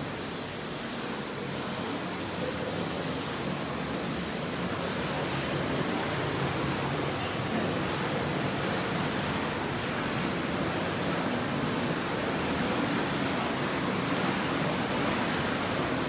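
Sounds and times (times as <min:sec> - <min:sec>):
water churning and bubbling: 0:00.0 - 0:16.0.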